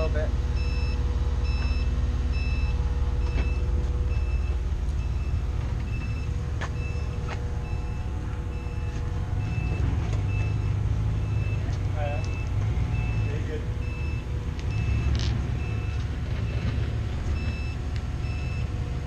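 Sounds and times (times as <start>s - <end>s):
forklift engine running: 0.0s - 19.0s
reversing alarm beeping: 0.6s - 18.8s.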